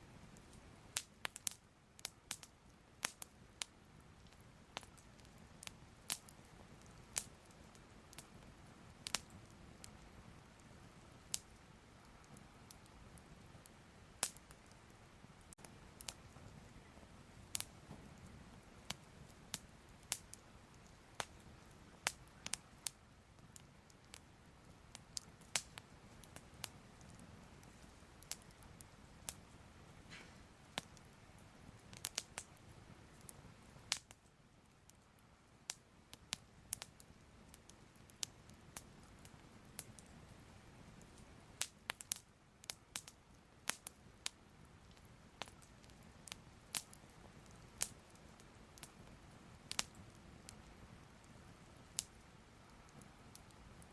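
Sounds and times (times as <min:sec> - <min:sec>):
fire crackling and popping: 0:00.0 - 0:53.9.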